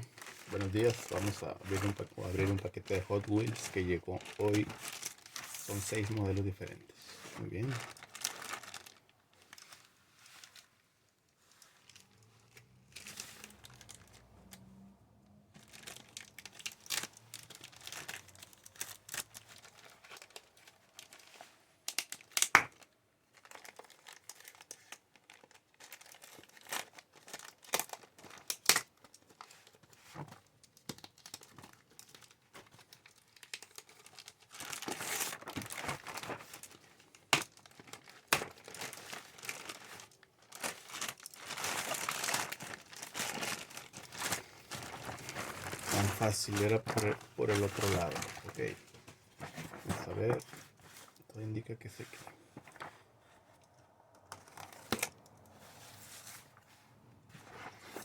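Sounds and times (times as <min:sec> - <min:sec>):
package wrapping crinkling and tearing: 0:00.0 - 0:10.7, 0:11.6 - 0:14.6, 0:15.6 - 0:51.2, 0:54.2 - 0:56.5.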